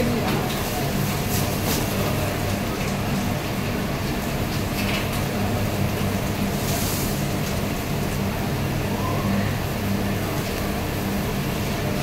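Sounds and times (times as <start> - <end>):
gas burners humming and rushing: 0.0 - 12.0.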